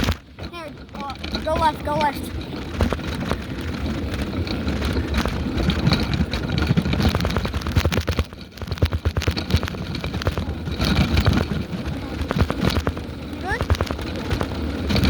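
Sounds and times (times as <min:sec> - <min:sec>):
bicycle rattles and knocks: 0:00.0 - 0:15.0
wind rumble on microphone: 0:00.0 - 0:15.0.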